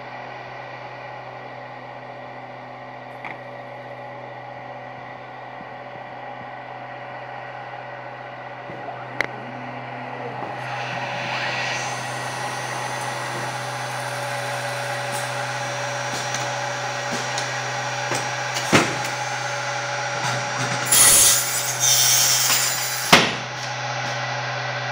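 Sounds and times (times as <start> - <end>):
machine humming: 0.0 - 24.9.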